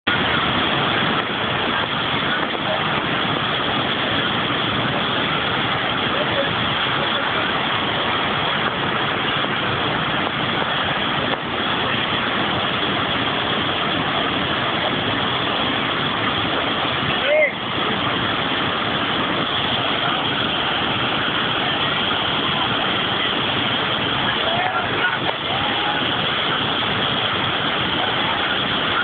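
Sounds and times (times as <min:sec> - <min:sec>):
water rushing over a weir: 0:00.0 - 0:29.0.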